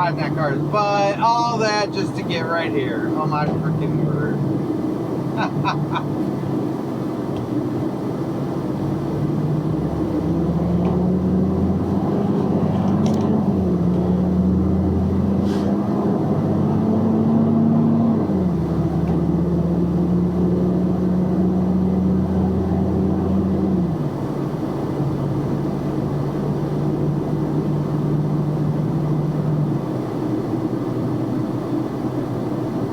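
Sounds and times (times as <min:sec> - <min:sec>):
steady road noise: 0:00.0 - 0:32.9
truck engine running: 0:00.0 - 0:32.9.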